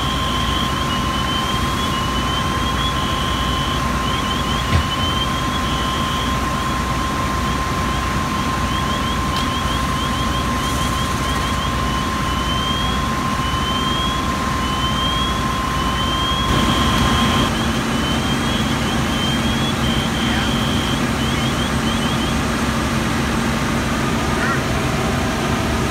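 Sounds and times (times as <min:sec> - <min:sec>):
high whine: 0:00.0 - 0:25.9
large vehicle engine running: 0:00.0 - 0:25.9.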